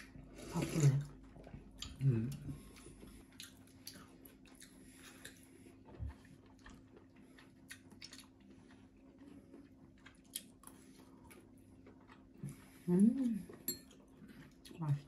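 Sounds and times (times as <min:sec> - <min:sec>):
chewing: 0:00.0 - 0:15.0
low steady hum: 0:00.0 - 0:15.0.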